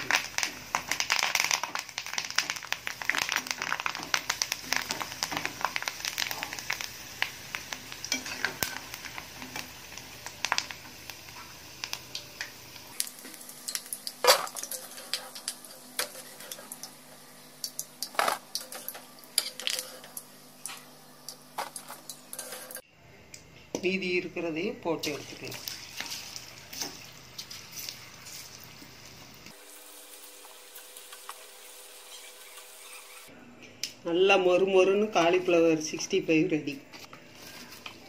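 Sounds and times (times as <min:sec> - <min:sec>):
food sizzling in hot oil: 0:00.0 - 0:22.8, 0:25.0 - 0:33.3.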